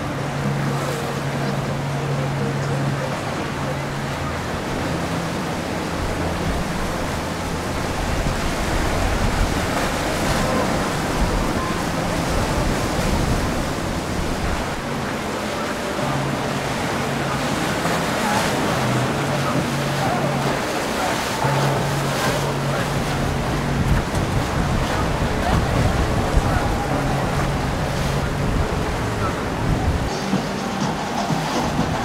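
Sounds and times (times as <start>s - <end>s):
outboard engine hum: 0.0s - 32.0s
rush of wind and water: 0.0s - 32.0s.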